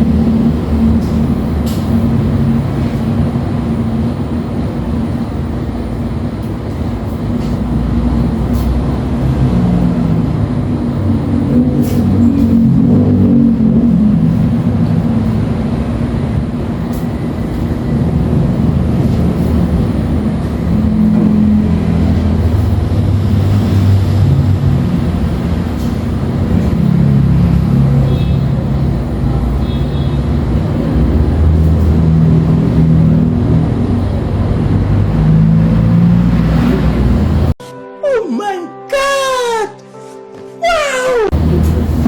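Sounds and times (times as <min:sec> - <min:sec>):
deep hum shifting in pitch: 0:00.0 - 0:37.6
low mechanical rumble: 0:00.0 - 0:37.6.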